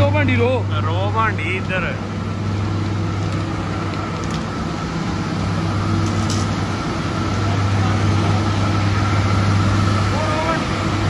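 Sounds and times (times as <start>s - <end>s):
deep machinery hum: 0.0s - 11.0s
thin steady whine: 0.0s - 11.0s.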